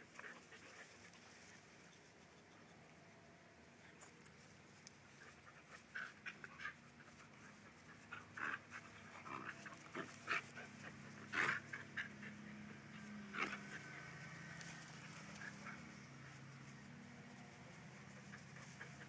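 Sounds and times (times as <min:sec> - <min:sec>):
dogs panting: 0:00.0 - 0:02.7, 0:05.0 - 0:16.8, 0:17.7 - 0:19.0.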